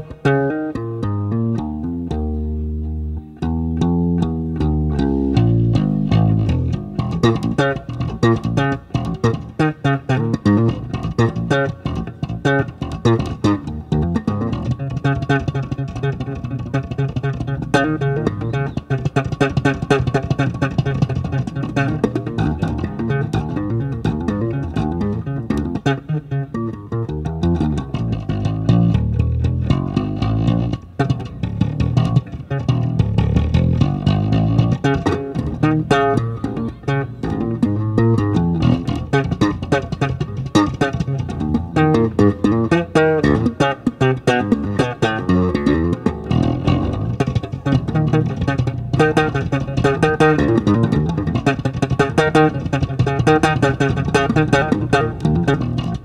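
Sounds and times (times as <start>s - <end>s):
electric bass lines: 0.0s - 56.0s.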